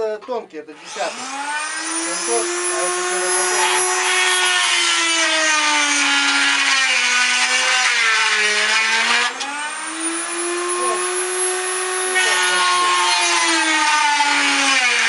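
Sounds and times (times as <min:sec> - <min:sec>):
electric motor whining: 0:00.8 - 0:15.0
disc grinding metal rod: 0:02.0 - 0:09.5, 0:10.1 - 0:15.0.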